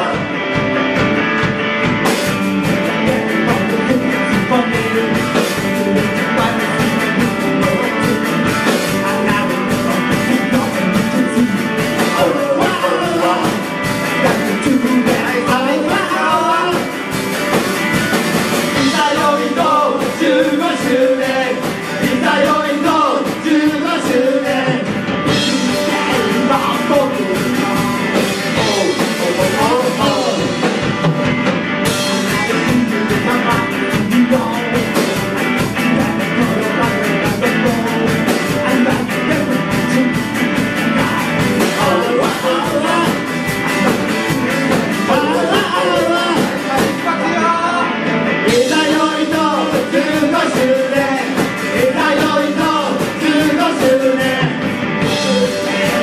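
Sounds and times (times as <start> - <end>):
man singing: 0.0 - 31.1, 31.8 - 56.0
drum kit with cymbals: 0.0 - 56.0
electric guitar: 0.0 - 56.0.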